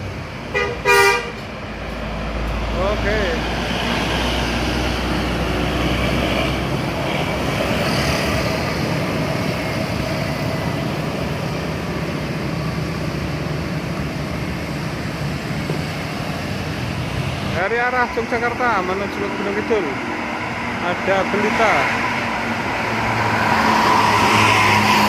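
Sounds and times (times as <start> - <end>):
traffic passing on road: 0.0 - 25.0.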